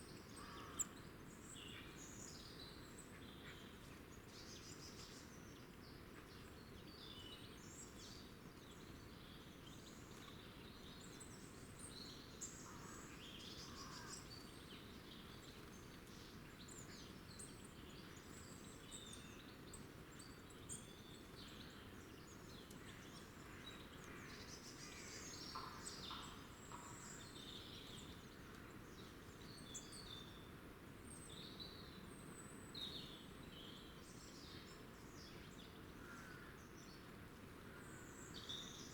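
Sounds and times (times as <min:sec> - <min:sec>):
low background hiss: 0:00.0 - 0:38.9.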